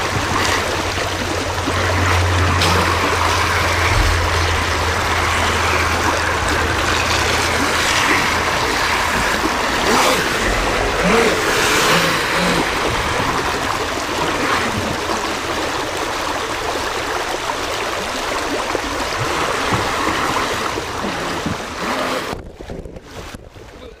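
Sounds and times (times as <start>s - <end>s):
low steady hum: 0.0s - 22.5s
creek water rushing over rocks: 0.0s - 23.7s.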